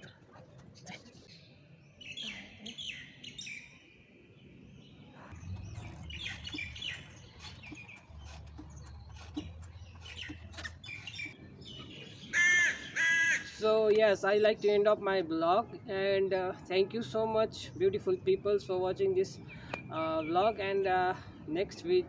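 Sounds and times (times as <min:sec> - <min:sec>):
small birds chirping: 0:00.0 - 0:13.0, 0:17.0 - 0:21.9.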